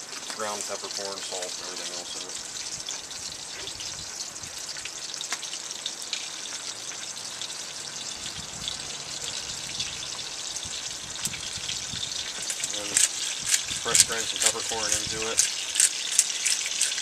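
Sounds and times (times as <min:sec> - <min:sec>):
crackles and pops: 0:00.0 - 0:07.6, 0:08.6 - 0:17.0
sausages sizzling in hot oil: 0:00.0 - 0:17.0.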